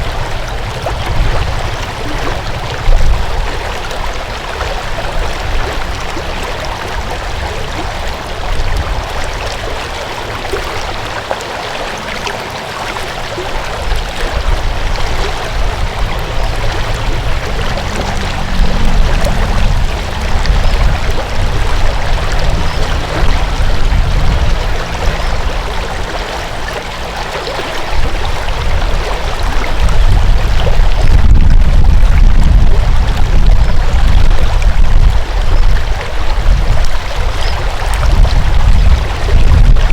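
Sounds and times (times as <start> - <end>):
deep rumble: 0.0 - 11.1, 11.8 - 39.9
stream water flowing: 0.0 - 39.9.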